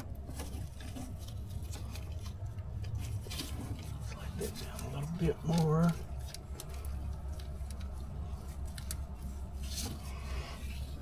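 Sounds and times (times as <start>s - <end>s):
parts rustling: 0.0s - 11.0s
steady low hum: 0.0s - 11.0s.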